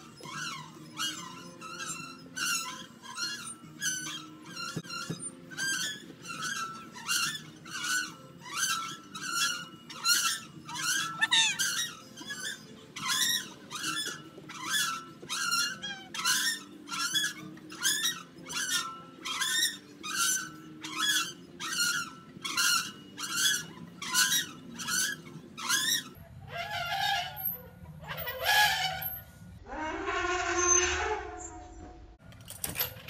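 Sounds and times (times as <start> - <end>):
swing squeaking: 0.0 - 33.0.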